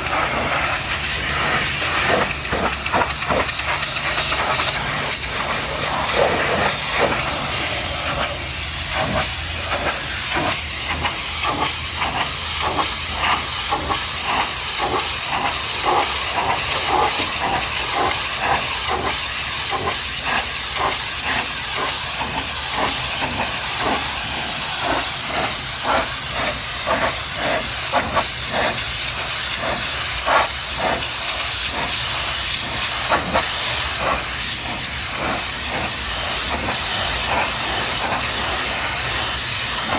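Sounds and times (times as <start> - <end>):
pressure washer jet spraying: 0.0 - 39.9
water spattering: 0.0 - 39.9.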